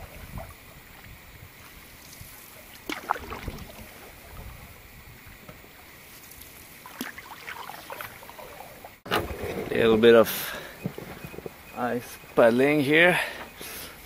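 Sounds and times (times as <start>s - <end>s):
paddle strokes in water: 0.0s - 12.2s.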